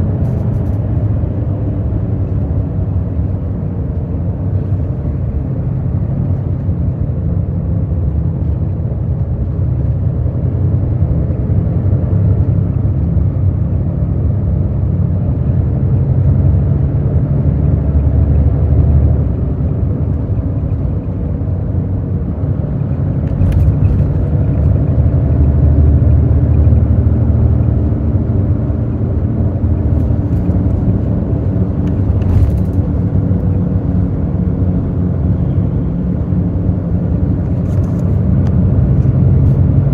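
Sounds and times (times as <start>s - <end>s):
bus diesel engine rumble: 0.0s - 39.9s
road noise: 0.0s - 39.9s.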